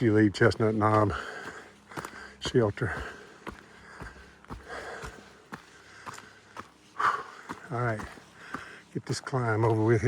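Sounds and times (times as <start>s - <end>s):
faint footsteps on trail: 0.0s - 10.0s.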